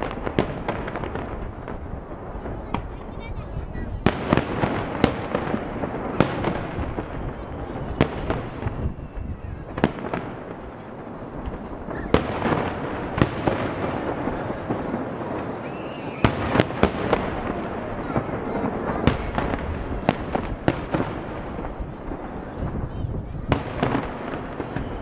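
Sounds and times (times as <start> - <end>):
firework crackling and rumbling: 0.0 - 25.0
firework shells booming: 0.0 - 25.0.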